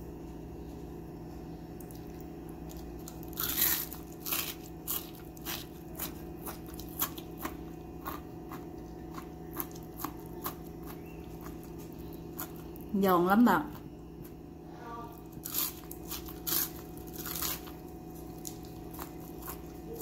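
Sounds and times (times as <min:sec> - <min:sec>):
crunchy chewing of fried food: 0:00.1 - 0:20.0.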